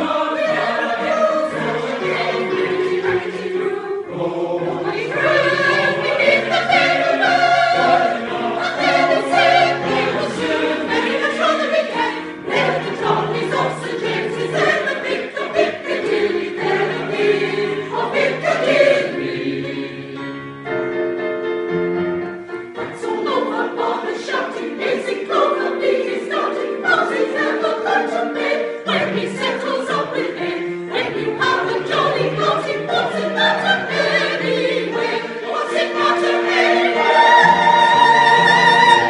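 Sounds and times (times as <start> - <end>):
choir singing in parts: 0.0 - 20.7, 22.6 - 39.0.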